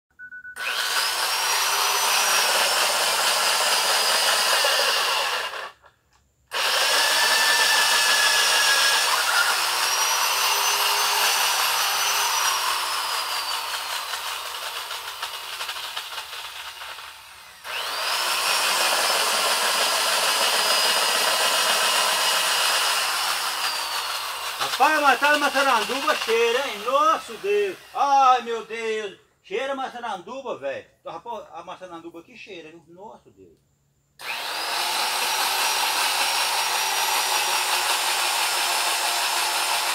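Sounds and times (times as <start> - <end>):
chainsaw cutting wood: 0.6 - 5.9, 6.5 - 28.7, 34.2 - 39.9.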